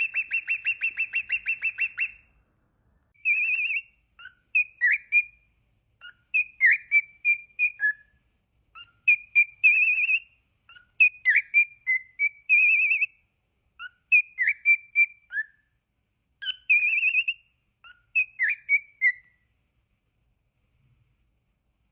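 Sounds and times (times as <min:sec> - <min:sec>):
lovebird chirping and warbling: 0:00.0 - 0:02.3, 0:03.2 - 0:15.8, 0:16.4 - 0:19.5.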